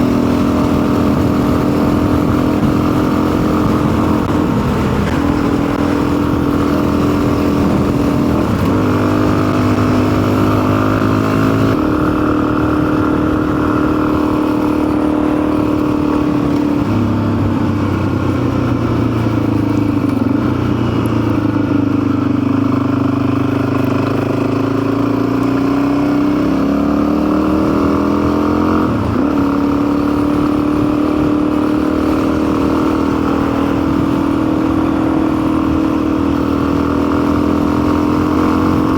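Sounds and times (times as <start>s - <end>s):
motorcycle engine revving while riding: 0.0s - 38.9s.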